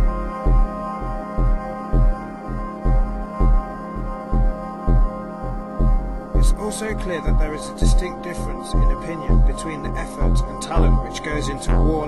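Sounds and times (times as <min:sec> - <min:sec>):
music with low beat and held tones: 0:00.0 - 0:12.0.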